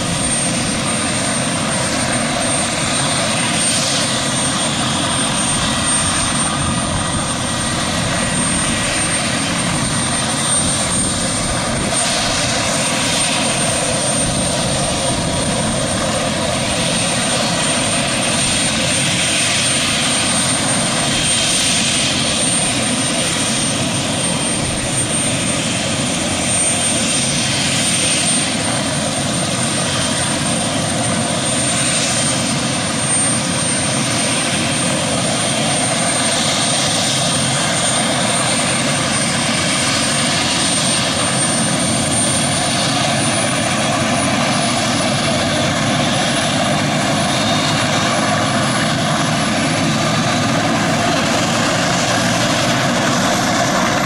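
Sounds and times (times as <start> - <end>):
helicopter engine and rotor noise: 0.0 - 54.0
high-pitched turbine whine: 0.0 - 54.0.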